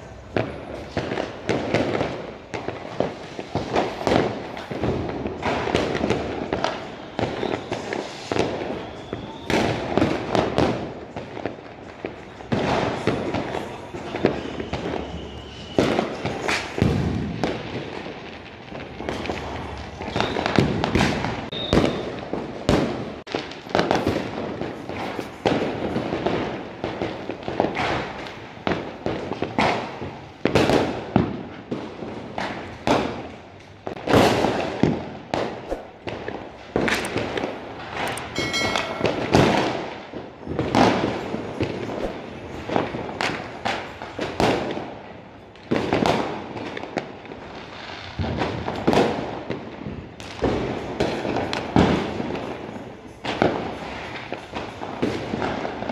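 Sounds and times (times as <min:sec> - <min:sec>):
firecrackers and fireworks banging: 0:00.0 - 0:55.9.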